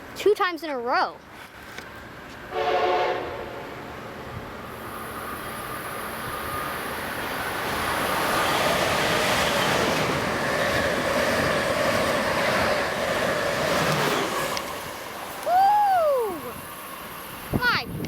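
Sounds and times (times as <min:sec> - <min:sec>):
electric train passing: 0:01.5 - 0:18.0.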